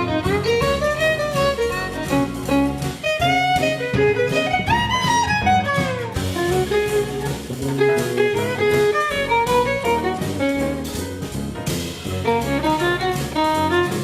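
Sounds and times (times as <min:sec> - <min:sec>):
upbeat jazzy instrumental music: 0:00.0 - 0:14.0.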